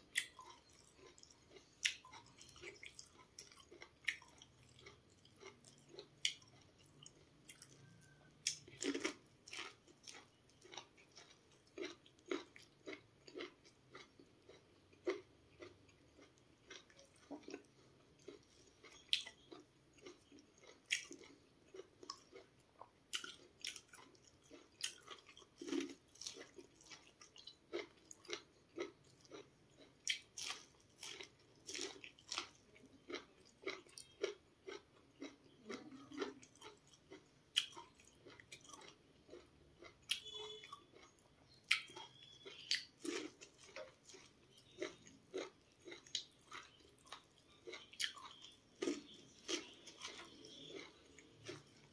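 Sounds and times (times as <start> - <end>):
person chewing corn: 0.0 - 51.9.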